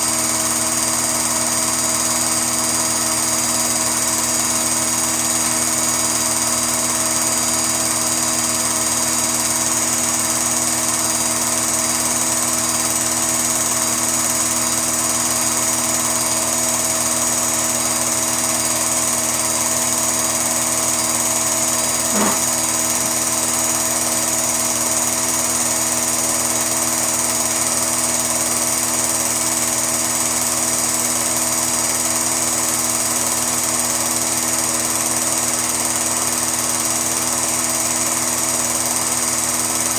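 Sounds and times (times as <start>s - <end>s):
steady motor whir: 0.0s - 39.9s.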